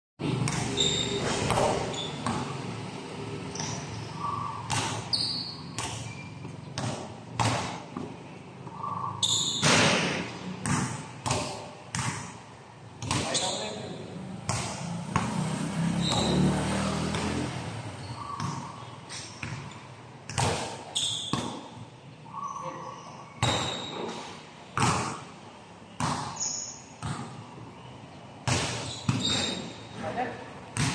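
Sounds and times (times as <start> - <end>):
basketball bouncing on court floor: 0.3 - 4.0, 4.6 - 12.4, 13.0 - 21.9, 23.4 - 27.5, 28.4 - 29.9, 30.7 - 30.9.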